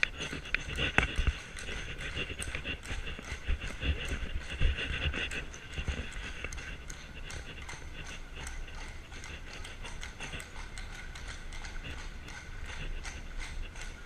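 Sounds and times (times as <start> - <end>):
hooves clip-clopping on cobblestones: 0.0 - 14.0
steady low rumble: 0.0 - 14.0.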